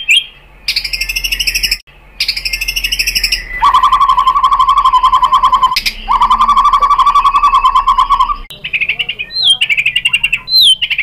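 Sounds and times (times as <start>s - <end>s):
bird singing fast trill: 0.0s - 11.0s
bird whistled notes: 0.0s - 11.0s.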